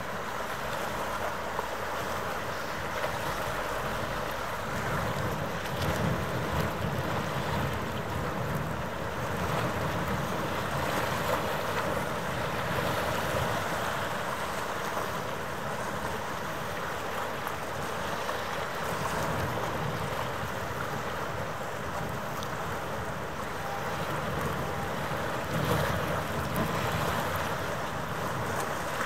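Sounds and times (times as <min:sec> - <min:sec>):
rushing harbour noise: 0:00.0 - 0:29.0.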